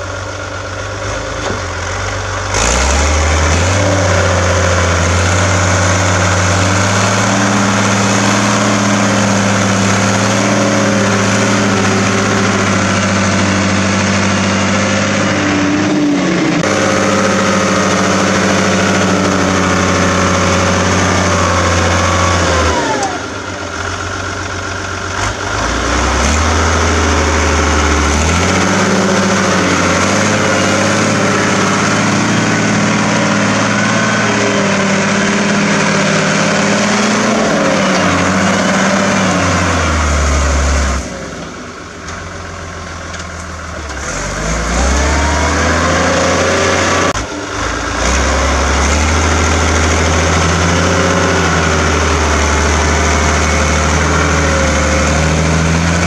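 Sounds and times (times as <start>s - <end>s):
tractor engine working under load: 0.0s - 56.0s.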